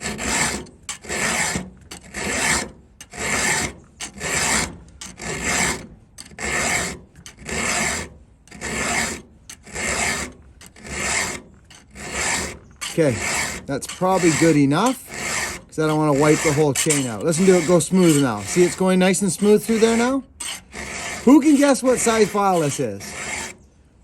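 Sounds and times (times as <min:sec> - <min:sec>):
file rasping on saw chain: 0:00.0 - 0:23.6.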